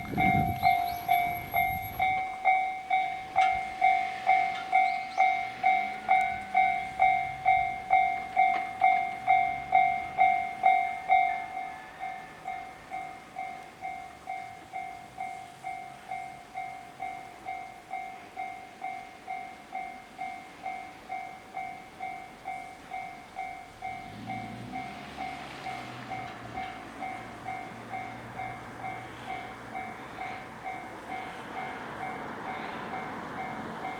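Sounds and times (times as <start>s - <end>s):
level crossing alarm ringing: 0.0s - 33.9s.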